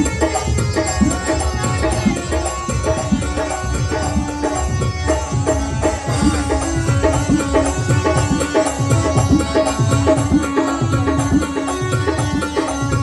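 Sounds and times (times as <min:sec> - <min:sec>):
hand drum rhythm: 0:00.0 - 0:13.0
sustained melody: 0:00.0 - 0:13.0.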